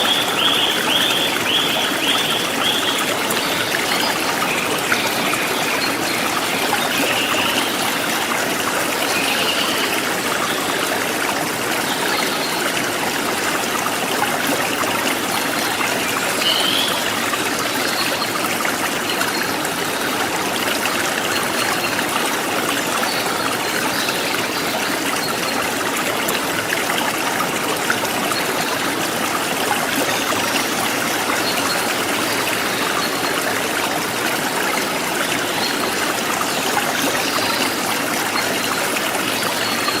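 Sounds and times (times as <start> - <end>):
stream flowing: 0.0 - 40.0.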